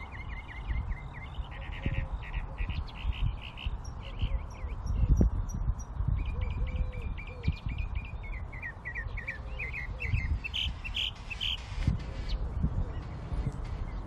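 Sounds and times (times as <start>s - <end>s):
small songbird singing: 0.0s - 14.0s
steady low rumble: 0.0s - 14.0s.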